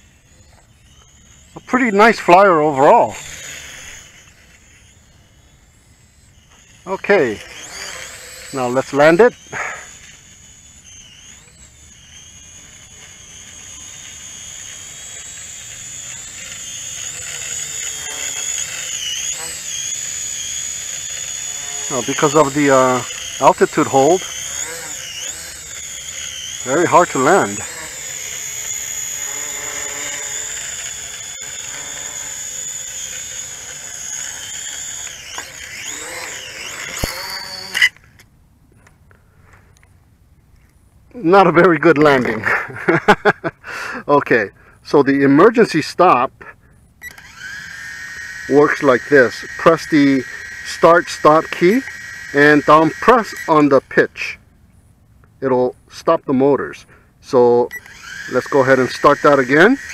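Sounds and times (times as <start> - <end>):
drone propellers whining: 0.0 - 39.9, 40.6 - 46.4, 47.0 - 54.6, 55.3 - 59.9.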